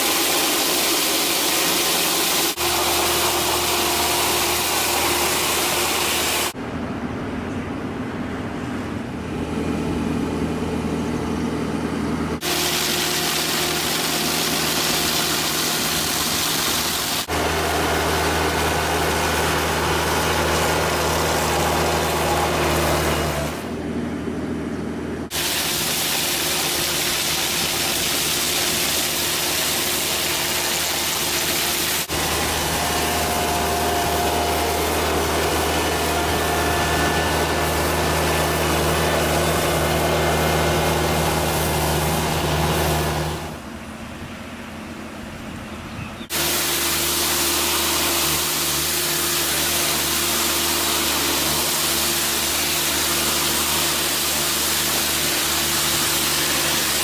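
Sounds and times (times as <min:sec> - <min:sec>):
rotary brush scrubbing pavement: 0:00.0 - 0:06.6, 0:12.4 - 0:23.8, 0:25.3 - 0:43.8, 0:46.3 - 0:57.0
machine engine hum: 0:01.4 - 0:57.0.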